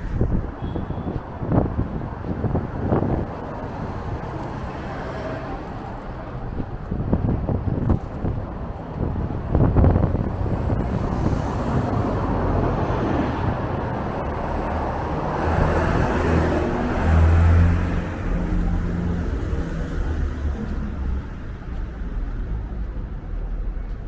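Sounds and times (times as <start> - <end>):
street traffic passing: 0.0 - 24.0
vehicle engine hum: 0.0 - 24.0
wind buffeting microphone: 0.0 - 24.0.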